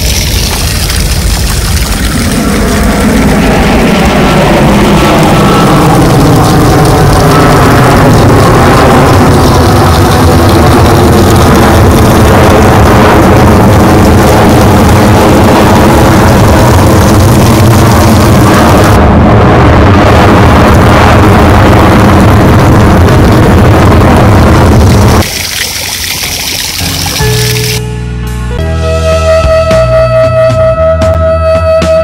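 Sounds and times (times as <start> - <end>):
jet engine roar overhead: 0.0 - 27.8.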